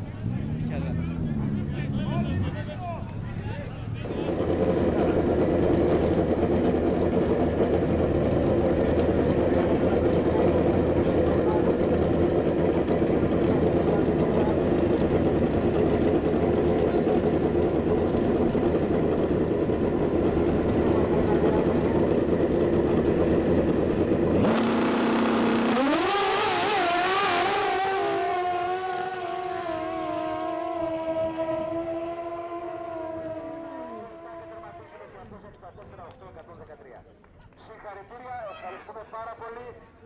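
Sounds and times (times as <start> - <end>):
drag racing motorcycles revving: 0.0 - 35.2.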